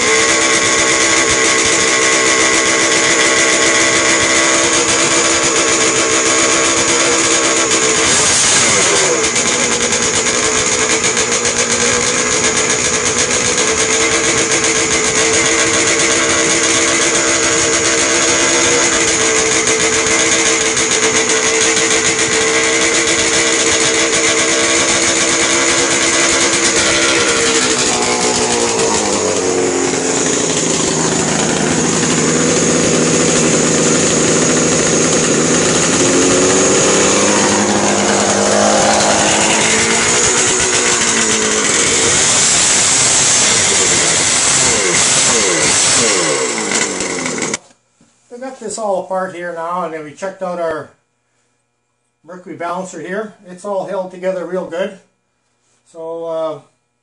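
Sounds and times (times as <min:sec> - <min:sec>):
motorcycle engine running: 0:00.0 - 0:47.7.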